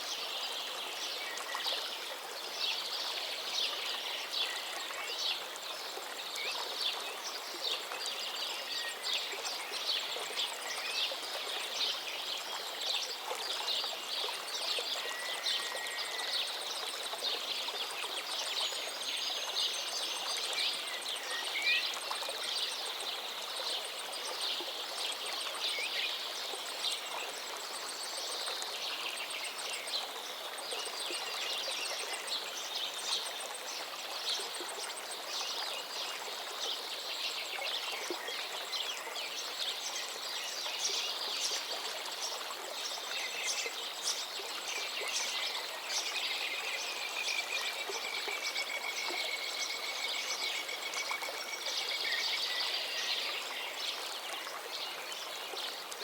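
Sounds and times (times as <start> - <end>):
river flowing: 0.0 - 56.0
songbirds singing and calling: 0.0 - 56.0.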